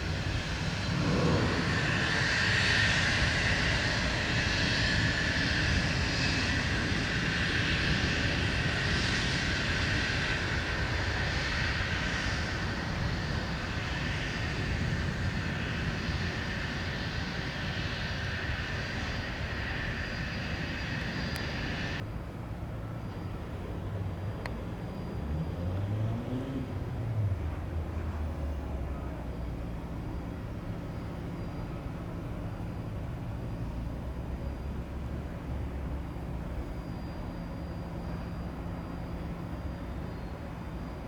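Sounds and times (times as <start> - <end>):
jet engines roaring with whine: 0.0 - 41.0.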